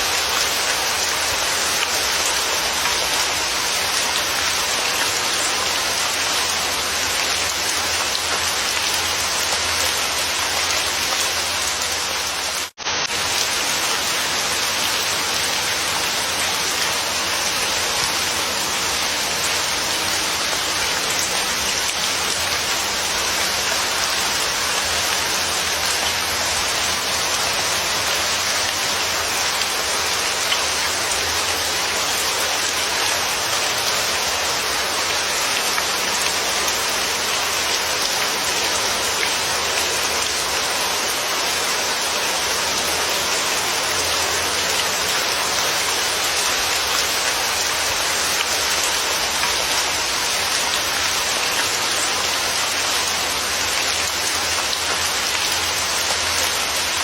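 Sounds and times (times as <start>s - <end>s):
dense rainfall hissing: 0.0s - 57.0s.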